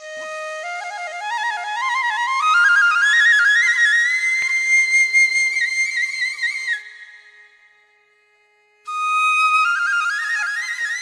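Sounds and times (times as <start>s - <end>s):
solo flute melody: 0.0s - 7.2s, 8.9s - 11.0s.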